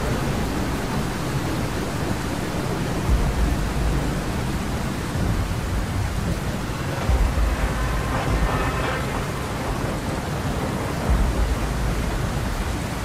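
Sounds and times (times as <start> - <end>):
heavy rain and wind: 0.0 - 13.0
low rumbles: 0.0 - 13.0.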